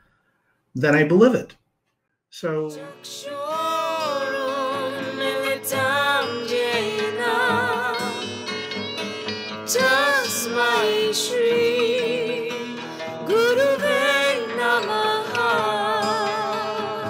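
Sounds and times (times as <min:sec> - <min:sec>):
slow melody of wavering held notes: 0:02.7 - 0:17.0.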